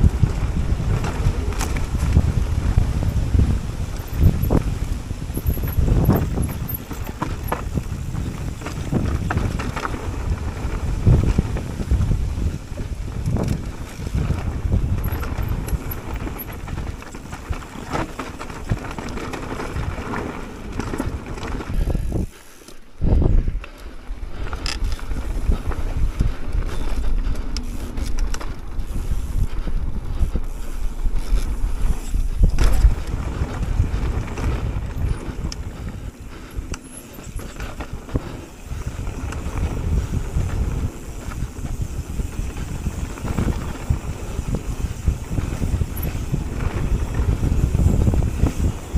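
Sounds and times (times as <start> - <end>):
bike rattling and knocking: 0.0 - 48.9
bike tyres rolling over dirt: 0.0 - 48.9
wind rumble on microphone: 0.0 - 48.9.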